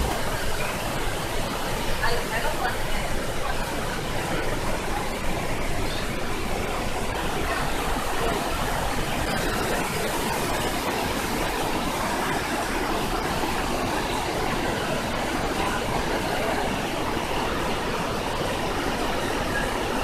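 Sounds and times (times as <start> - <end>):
river rapids rushing over boulders: 0.0 - 20.0.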